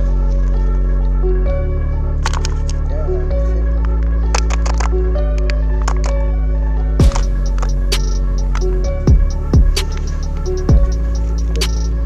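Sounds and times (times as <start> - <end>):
ambient chords over deep bass: 0.0 - 12.0.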